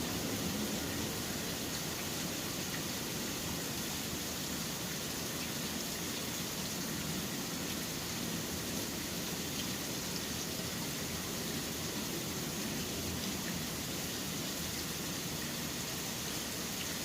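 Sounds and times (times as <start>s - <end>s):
low rumble of city traffic: 0.0s - 17.0s
steady rain falling: 0.0s - 17.0s.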